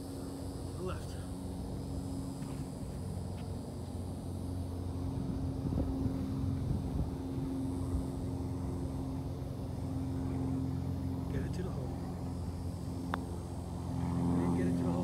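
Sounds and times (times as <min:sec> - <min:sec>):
engine drone: 0:00.0 - 0:15.0.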